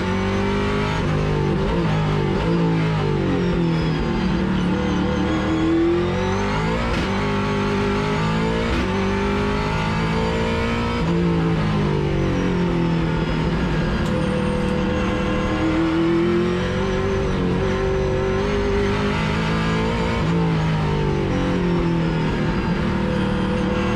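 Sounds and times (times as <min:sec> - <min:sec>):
race car engine revving: 0:00.0 - 0:23.9.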